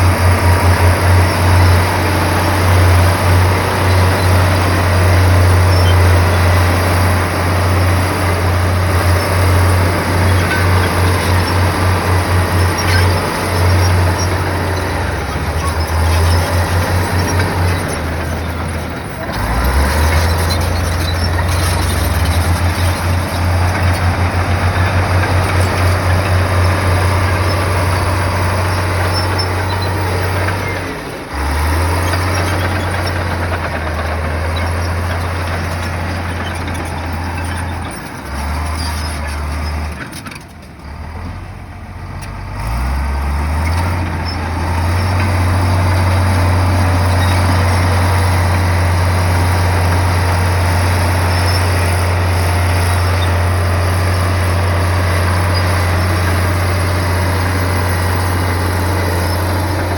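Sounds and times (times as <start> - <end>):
bulldozer diesel engine throbbing: 0.0 - 59.9.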